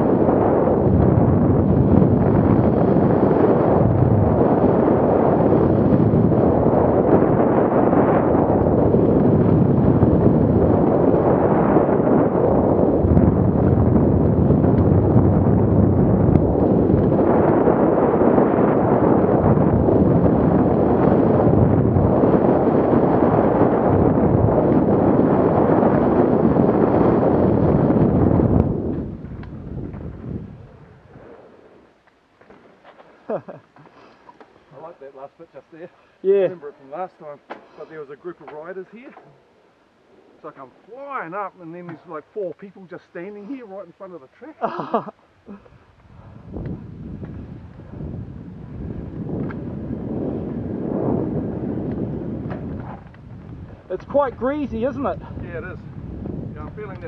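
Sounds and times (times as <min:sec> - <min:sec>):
bike tyres rolling over dirt: 0:00.0 - 0:35.1, 0:46.0 - 0:57.0
wind buffeting microphone: 0:00.0 - 0:57.0.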